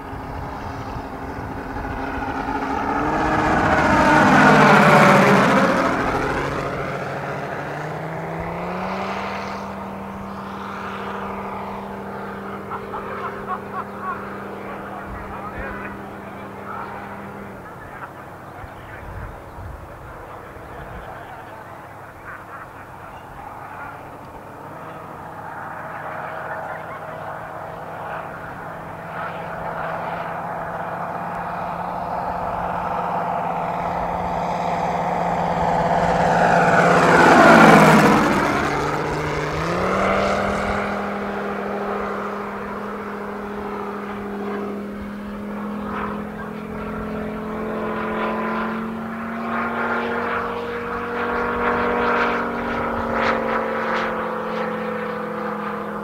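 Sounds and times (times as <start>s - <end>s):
model plane engine droning: 0.0s - 56.0s.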